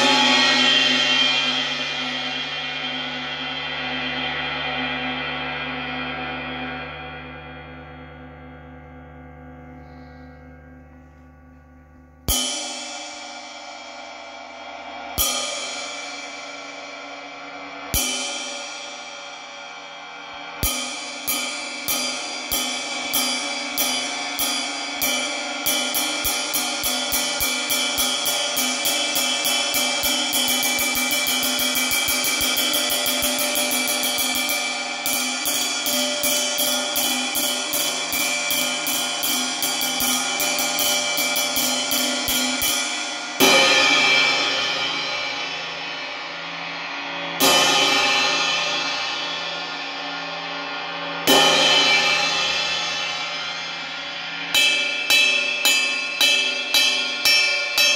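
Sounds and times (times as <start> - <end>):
ride cymbal played with drumstick: 0.0 - 8.0, 12.3 - 57.9
loud cymbal hits ringing out: 0.0 - 10.5, 12.3 - 57.9.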